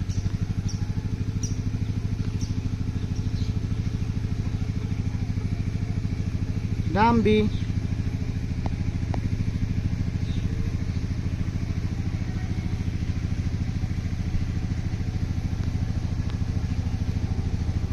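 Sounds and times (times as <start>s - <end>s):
small engine throbbing: 0.0s - 17.9s.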